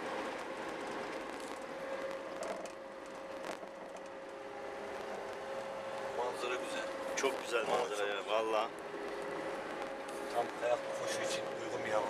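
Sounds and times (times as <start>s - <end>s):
diesel engine running with whine: 0.0s - 12.0s.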